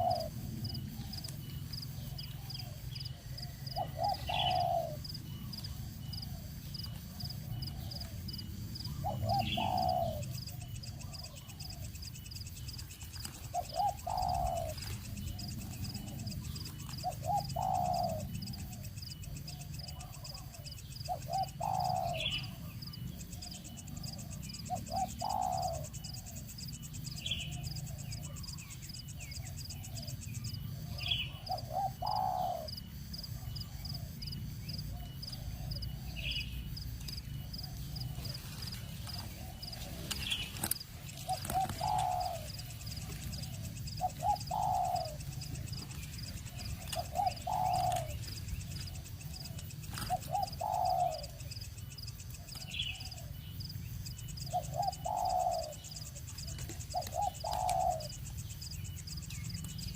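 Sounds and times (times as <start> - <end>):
bird calling: 0.0 - 59.9
higher bird chirp: 0.0 - 59.9.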